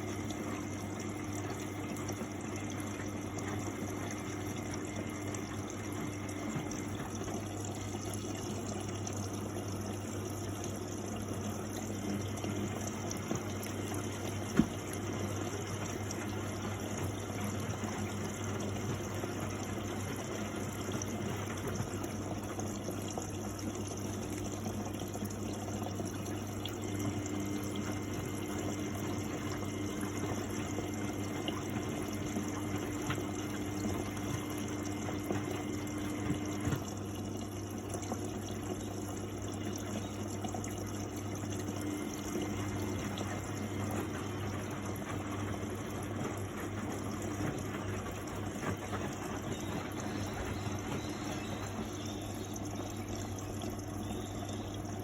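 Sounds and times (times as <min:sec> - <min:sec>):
washing machine water sloshing: 0:00.0 - 0:55.0.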